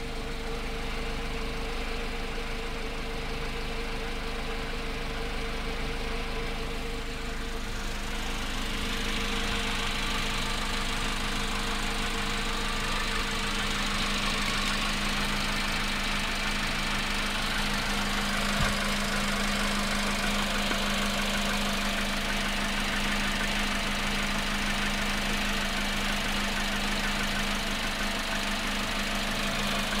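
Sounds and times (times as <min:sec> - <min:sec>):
car engine running with knocking: 0:00.0 - 0:30.0.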